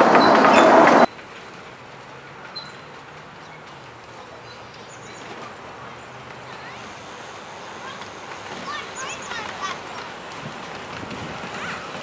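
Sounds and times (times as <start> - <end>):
loud noise aboard train: 0.0 - 12.0
small train rumbling on track: 0.0 - 12.0.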